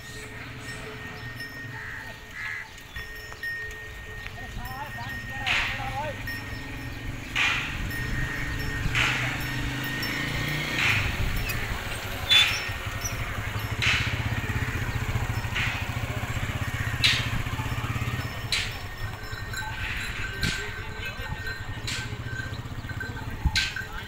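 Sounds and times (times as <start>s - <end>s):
low engine hum: 3.1s - 24.0s.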